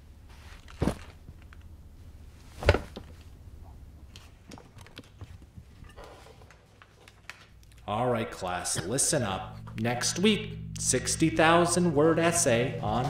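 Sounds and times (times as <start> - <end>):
faint low room hum: 0.0 - 13.0.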